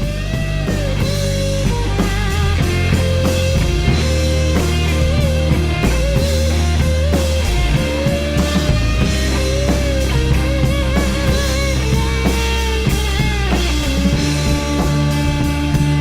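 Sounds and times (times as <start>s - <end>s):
bass guitar: 0.0s - 16.0s
electric guitar lead: 0.0s - 16.0s
steady drum beat: 0.0s - 16.0s.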